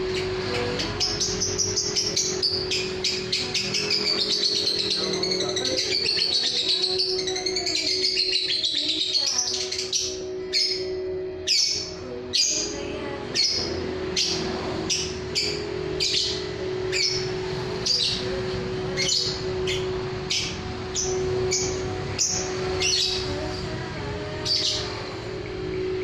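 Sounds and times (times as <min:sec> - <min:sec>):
lovebird chirping: 0:00.0 - 0:26.0
steady low hum: 0:00.0 - 0:26.0.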